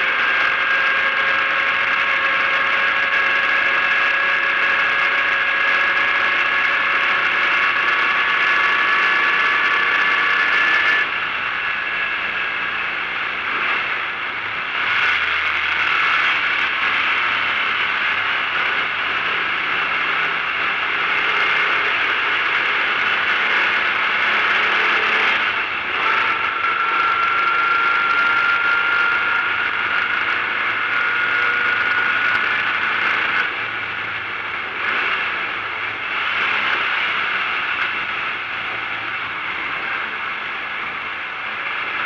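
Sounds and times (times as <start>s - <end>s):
race car engine running hard: 0.0s - 42.0s.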